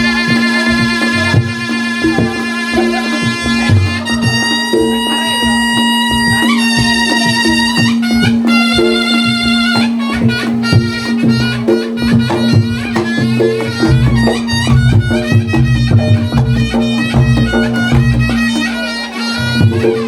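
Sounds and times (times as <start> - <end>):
drum strokes: 0.0 - 20.0
low gong-like beats: 0.0 - 20.0
reedy shawm melody: 0.0 - 20.0.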